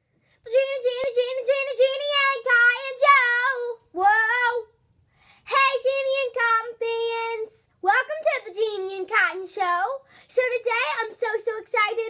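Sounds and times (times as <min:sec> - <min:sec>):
girl singing unaccompanied: 0:00.4 - 0:12.0.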